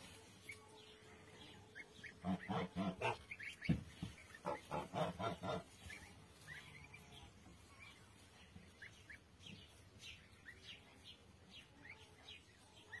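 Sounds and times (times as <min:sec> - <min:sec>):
goslings peeping: 0:00.0 - 0:13.0.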